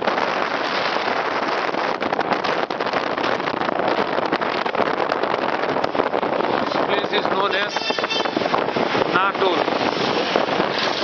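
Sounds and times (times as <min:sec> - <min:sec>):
traffic noise: 0:00.0 - 0:11.0
wind over microphone: 0:00.0 - 0:11.0.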